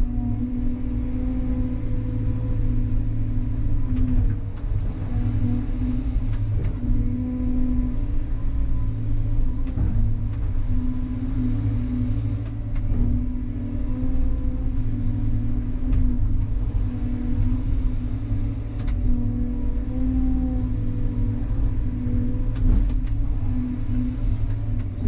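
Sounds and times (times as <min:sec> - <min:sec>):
excavator engine drone: 0:00.0 - 0:25.0
hydraulic hum: 0:00.0 - 0:25.0.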